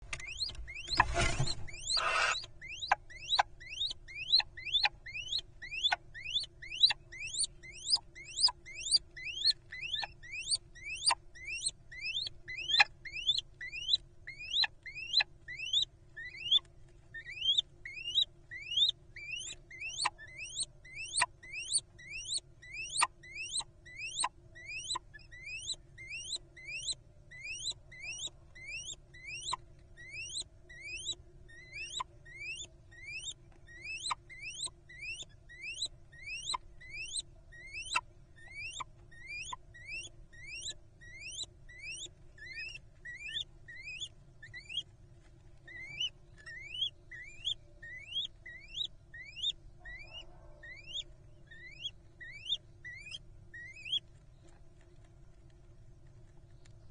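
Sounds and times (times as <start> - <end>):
faint steady hum: 0.0 - 56.9
owls squeaking: 0.1 - 44.9, 45.6 - 54.2.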